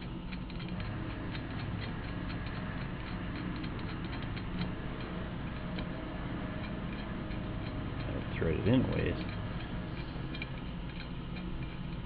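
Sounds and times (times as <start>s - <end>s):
metallic clicks of wire spokes: 0.0s - 12.0s
steady low hum: 0.0s - 12.0s.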